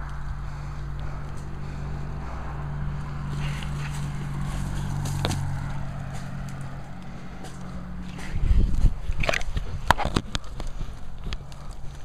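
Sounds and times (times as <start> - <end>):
footsteps through dry brush: 0.0 - 12.0
steady low drone: 0.0 - 12.0.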